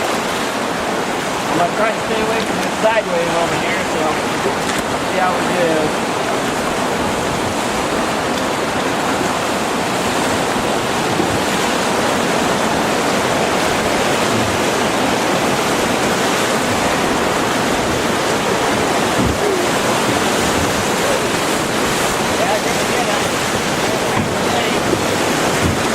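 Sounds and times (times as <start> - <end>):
river whitewater rushing: 0.0 - 25.9.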